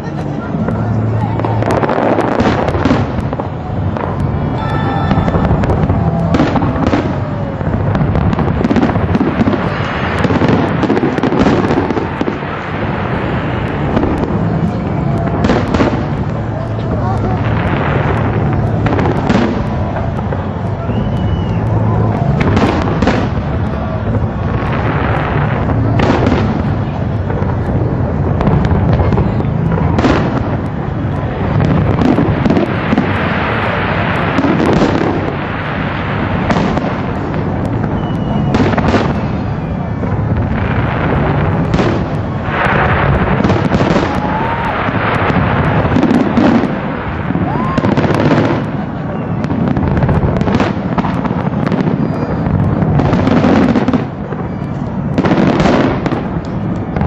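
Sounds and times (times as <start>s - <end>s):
fireworks bursting: 0.0s - 57.0s
fireworks rumble and crackle: 0.0s - 57.0s.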